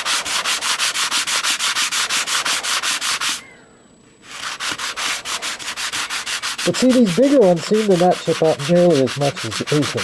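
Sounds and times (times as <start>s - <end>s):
sanding wood rasping: 0.0s - 3.4s, 4.2s - 10.0s.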